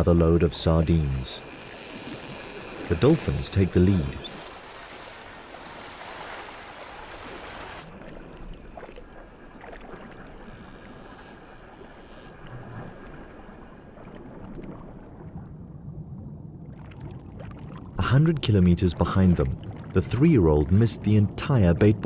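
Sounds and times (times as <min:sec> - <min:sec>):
sea water rushing and splashing: 0:00.0 - 0:22.0.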